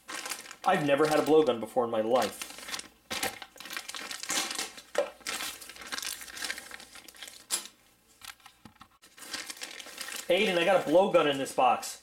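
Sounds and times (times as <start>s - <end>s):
plastic bag crinkling: 0.0s - 8.4s, 9.0s - 11.7s.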